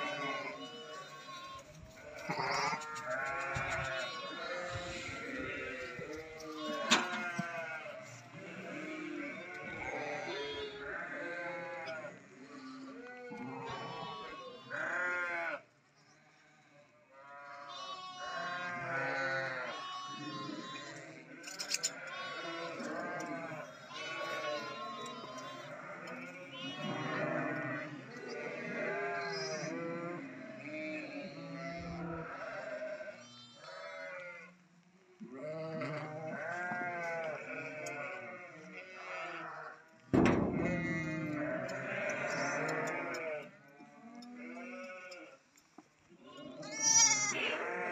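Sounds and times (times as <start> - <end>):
sheep bleating: 0.0 - 15.7, 17.3 - 34.6, 35.2 - 39.8, 40.5 - 45.4, 46.2 - 47.9.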